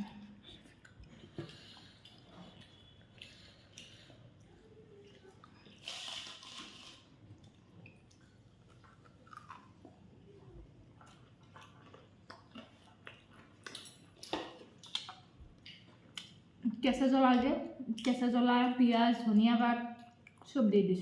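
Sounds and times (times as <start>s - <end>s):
person chewing food: 0.0s - 16.6s, 20.0s - 20.5s.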